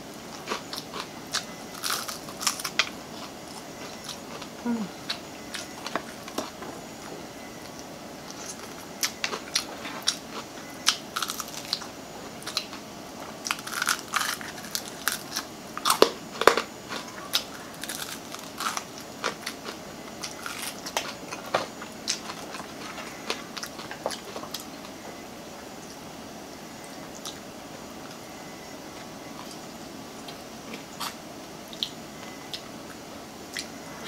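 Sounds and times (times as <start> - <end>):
crunchy chewing of fried chicken: 0.0 - 26.1, 27.0 - 34.0.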